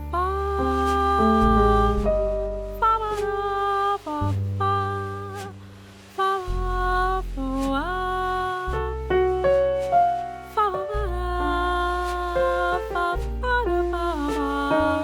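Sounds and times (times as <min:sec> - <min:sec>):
slow jazz ballad: 0:00.0 - 0:15.0.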